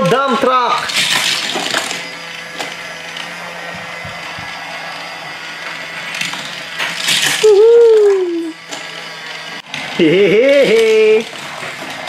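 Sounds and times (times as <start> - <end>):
toy electric motor humming: 0.0 - 12.0.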